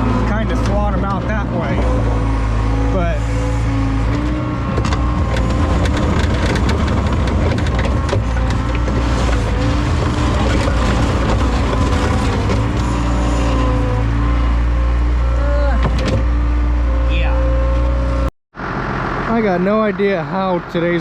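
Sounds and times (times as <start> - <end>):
clunks and rattles: 0.0 - 18.3
skid steer engine whining: 0.0 - 21.0.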